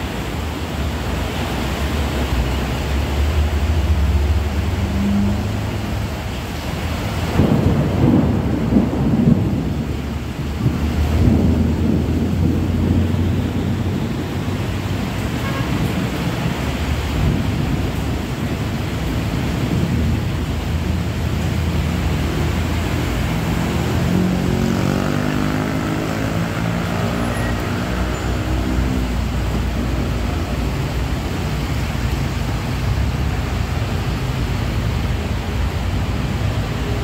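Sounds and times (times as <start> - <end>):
rain and rushing water: 0.0 - 37.0
vehicle engine through floodwater: 0.0 - 37.0.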